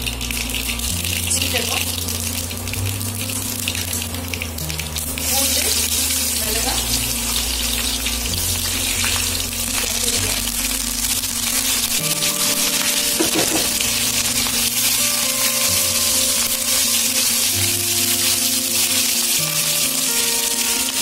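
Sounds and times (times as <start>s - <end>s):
hot oil sizzling in a pan: 0.0s - 21.0s.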